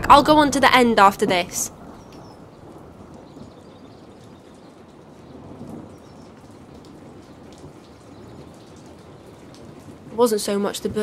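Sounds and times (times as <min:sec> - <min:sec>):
steady rain: 0:00.0 - 0:11.0
thunder rumbling: 0:00.0 - 0:11.0.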